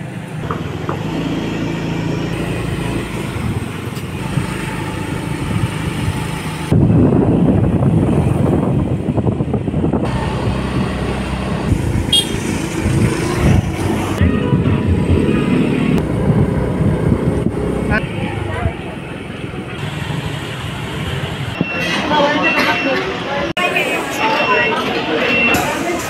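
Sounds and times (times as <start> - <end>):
street traffic: 0.0 - 26.0
motorcycle engine running: 0.4 - 21.5.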